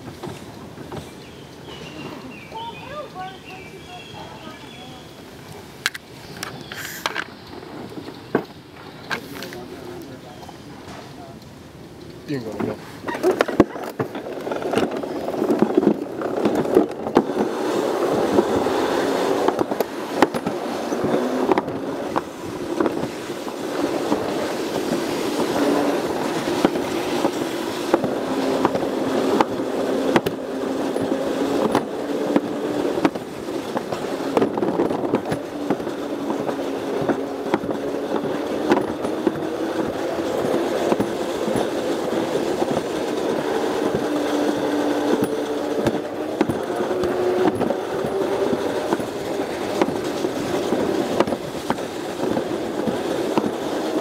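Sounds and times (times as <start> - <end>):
sled rattling rumble on track: 0.0 - 54.0.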